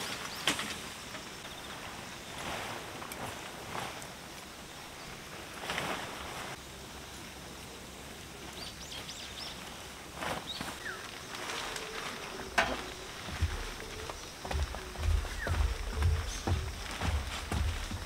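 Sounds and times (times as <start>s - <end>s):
tent fabric rustling: 0.0s - 6.6s, 8.9s - 18.0s
steady rain: 0.0s - 18.0s.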